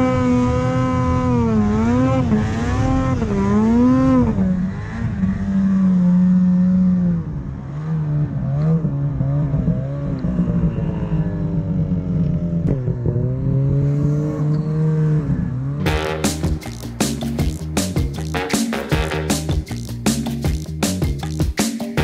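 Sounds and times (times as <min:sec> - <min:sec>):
snowmobile engine revving: 0:00.0 - 0:19.7.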